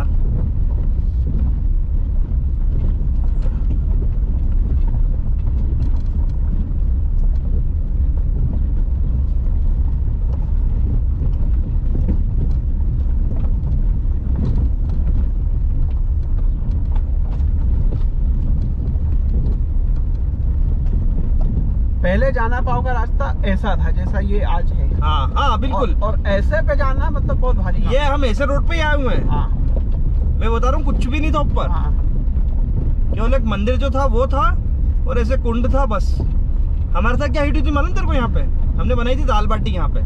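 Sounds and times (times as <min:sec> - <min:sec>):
engine and tyres on gravel: 0:00.0 - 0:40.0
knocks and rattles: 0:00.0 - 0:40.0.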